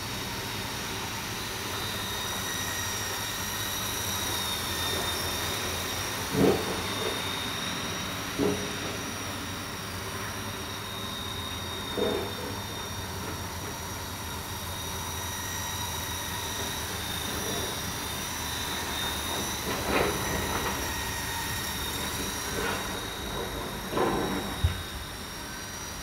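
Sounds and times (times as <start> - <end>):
model helicopter whining: 0.0 - 26.0.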